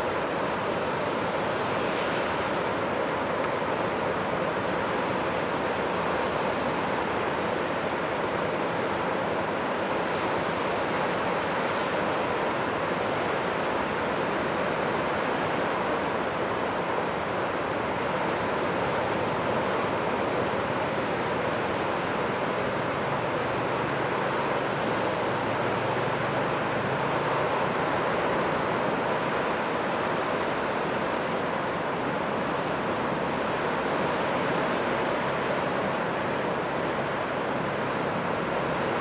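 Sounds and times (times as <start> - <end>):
surf rushing: 0.0 - 39.0
wind: 0.0 - 39.0.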